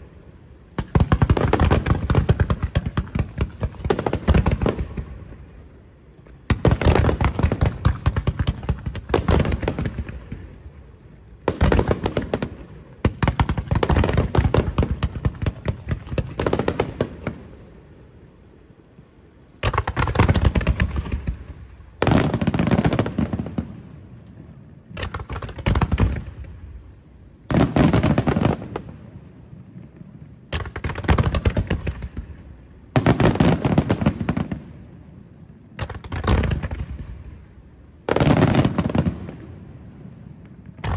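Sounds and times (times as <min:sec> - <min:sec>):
fireworks bursting: 0:00.0 - 0:18.3, 0:19.5 - 0:40.9.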